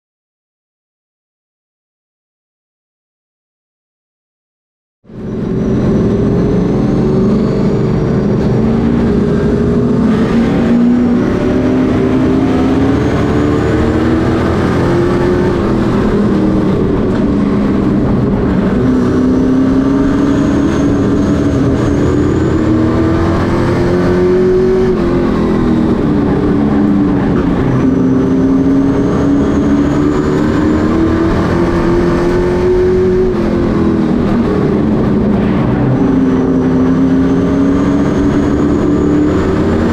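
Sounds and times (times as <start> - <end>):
race truck engines accelerating: 5.1 - 39.9.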